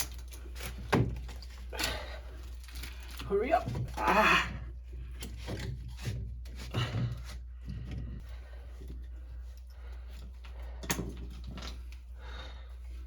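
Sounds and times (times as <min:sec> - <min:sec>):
plastic pipe parts rubbing and clicking: 0:00.0 - 0:12.2.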